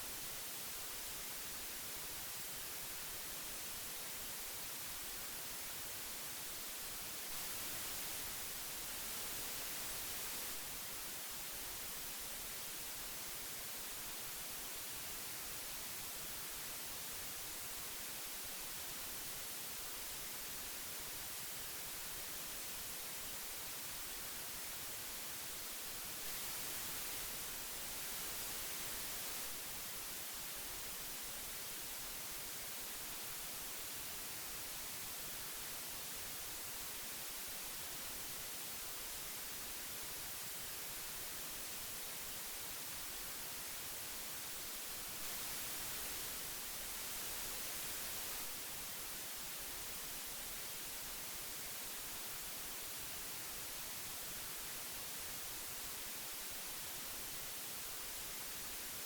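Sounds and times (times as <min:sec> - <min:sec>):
magnetic tape hiss: 0:00.0 - 0:59.0.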